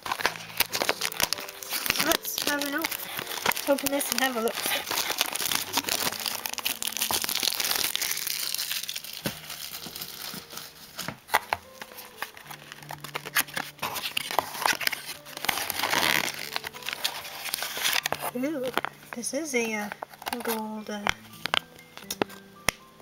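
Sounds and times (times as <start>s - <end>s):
plastic wrapping crinkling: 0.0s - 22.8s.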